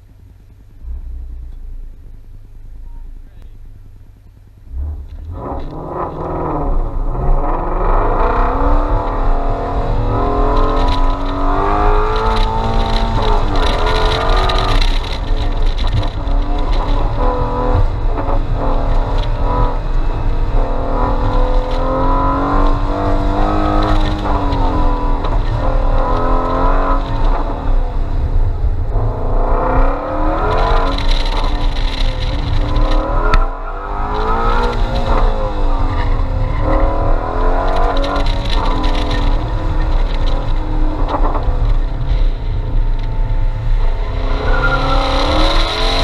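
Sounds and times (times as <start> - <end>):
car engine at full throttle: 0.0 - 46.0.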